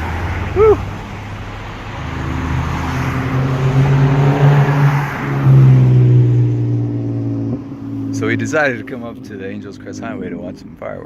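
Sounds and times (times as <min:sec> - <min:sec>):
car engine humming under load: 0:00.0 - 0:11.0.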